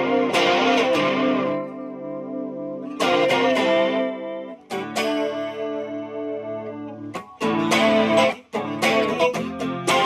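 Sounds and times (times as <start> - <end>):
electric guitar chords: 0.0 - 10.0.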